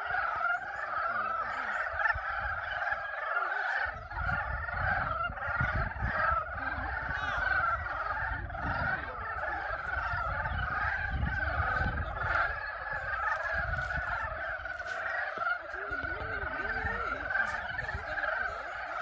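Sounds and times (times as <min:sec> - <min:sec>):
chorus of frogs calling: 0:00.0 - 0:19.0.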